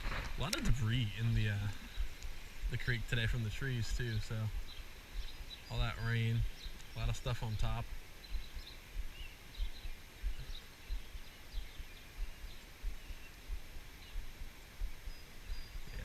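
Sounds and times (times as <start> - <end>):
faint bird chirps: 0.4 - 16.0.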